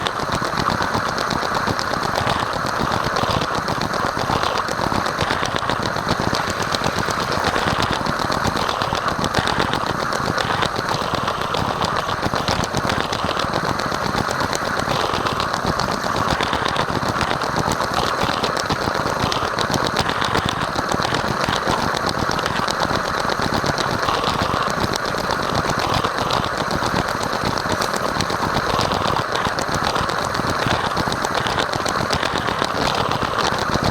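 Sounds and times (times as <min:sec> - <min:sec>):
toy train motor whir: 0:00.0 - 0:33.9
wheels rattling on plastic track: 0:00.0 - 0:33.9.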